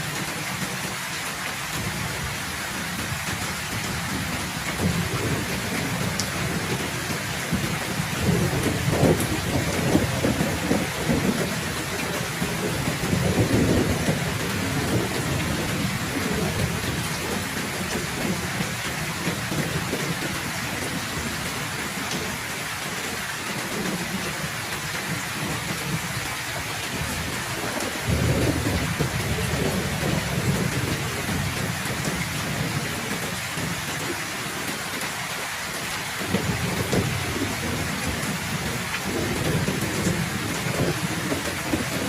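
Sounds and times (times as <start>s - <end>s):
heavy rain falling: 0.0s - 42.0s
low rolling thunder: 3.1s - 22.4s, 25.1s - 34.2s, 36.2s - 42.0s.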